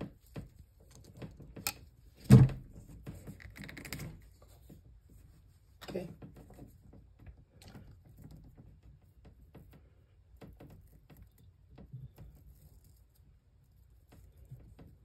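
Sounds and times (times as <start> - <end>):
fingers rustling cable shield: 0.0 - 15.0.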